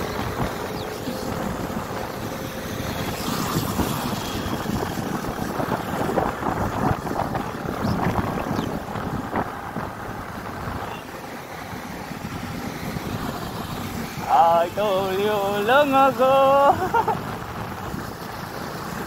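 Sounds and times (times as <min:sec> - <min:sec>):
wind buffeting microphone: 0:00.0 - 0:15.6
scooter engine running: 0:00.0 - 0:19.0.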